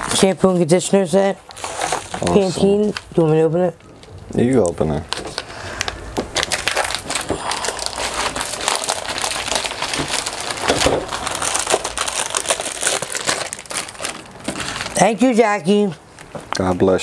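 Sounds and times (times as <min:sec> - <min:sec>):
plastic wrapping crackling: 0:00.0 - 0:16.5.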